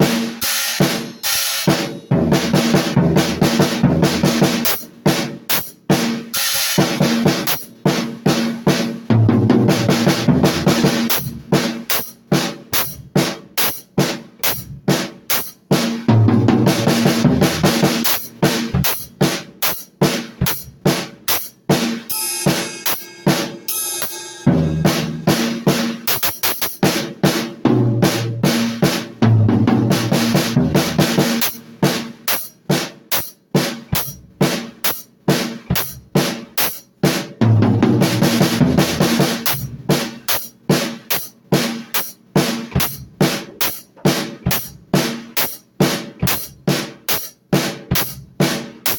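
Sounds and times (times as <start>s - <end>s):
drum kit playing: 0.0s - 48.9s.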